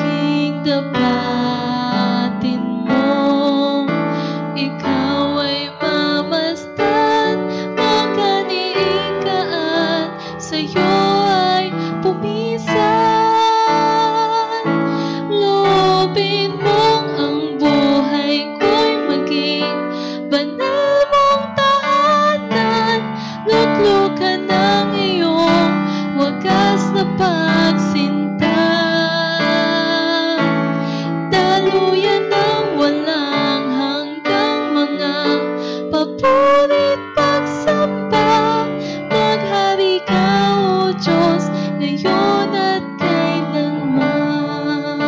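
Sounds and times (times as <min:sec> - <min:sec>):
electronic keyboard piano chords: 0:00.0 - 0:45.0
woman singing into a microphone: 0:00.0 - 0:45.0.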